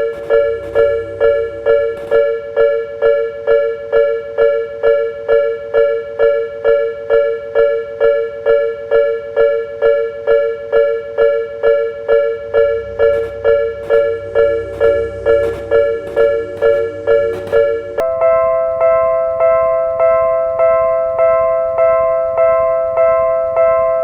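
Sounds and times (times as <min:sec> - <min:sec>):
level crossing warning bell: 0:00.0 - 0:24.0.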